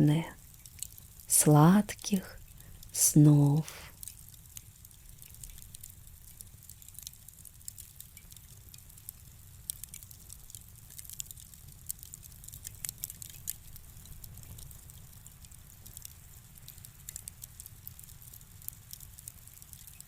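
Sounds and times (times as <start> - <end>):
fire crackling: 0.0 - 19.9.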